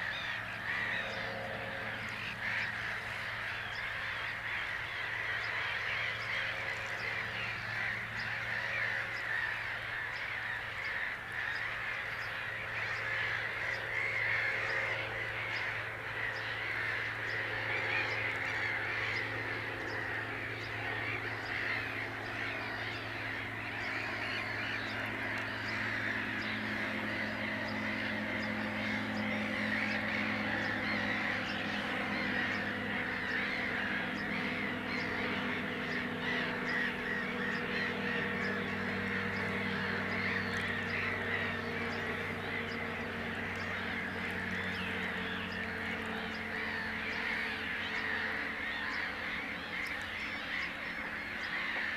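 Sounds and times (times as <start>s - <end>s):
birds calling: 0.0s - 51.9s
steady low hum: 0.0s - 51.9s.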